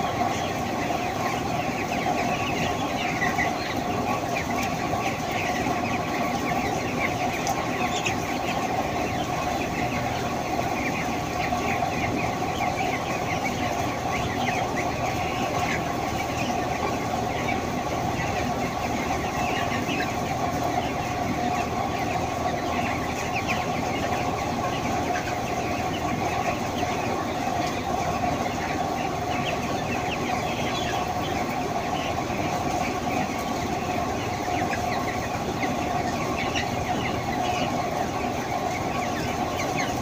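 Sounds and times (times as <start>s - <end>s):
chickens chirping and clucking: 0.0s - 40.0s.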